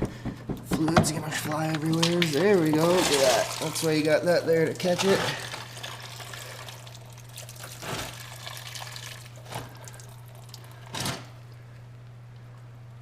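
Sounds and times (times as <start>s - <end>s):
fluid running and dripping: 0.8s - 13.0s.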